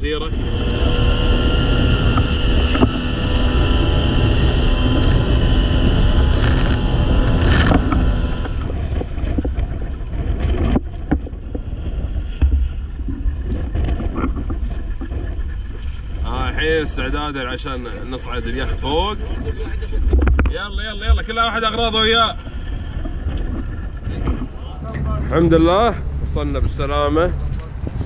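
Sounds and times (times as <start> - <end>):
boat engine rumbling: 0.0 - 28.0
engine whine: 0.0 - 28.0
wind buffeting microphone: 0.0 - 28.0.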